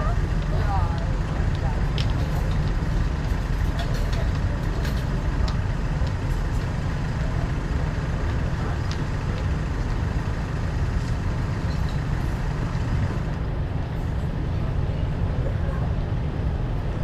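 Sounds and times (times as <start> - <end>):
car driving on wet streets: 0.0 - 17.0.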